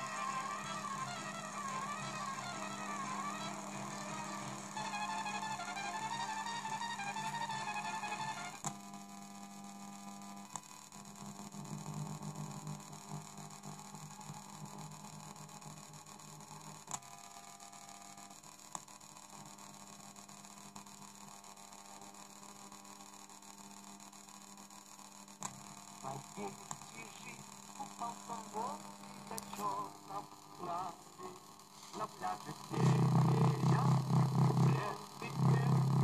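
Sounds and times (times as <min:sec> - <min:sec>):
faint steady hum: 0:00.0 - 0:36.0
fixed high interference tones: 0:00.0 - 0:36.0.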